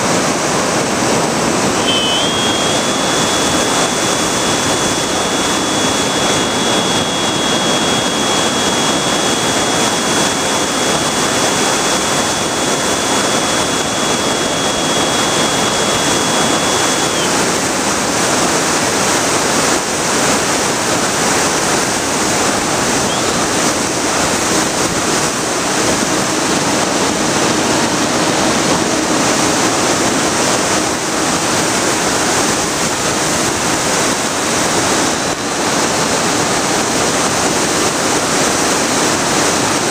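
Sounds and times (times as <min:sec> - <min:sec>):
rush of airflow over microphone: 0:00.0 - 0:39.9
electric motor whine: 0:01.4 - 0:37.2.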